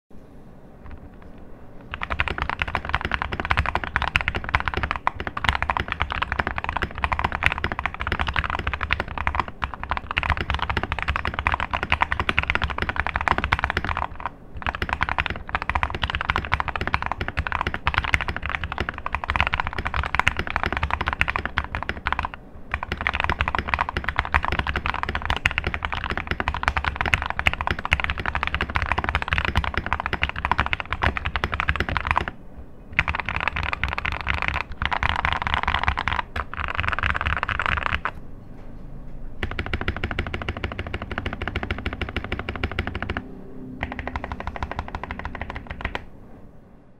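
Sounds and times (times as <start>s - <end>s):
fast mechanical keyboard typing: 0.9s - 38.2s, 39.4s - 43.2s, 43.8s - 46.1s.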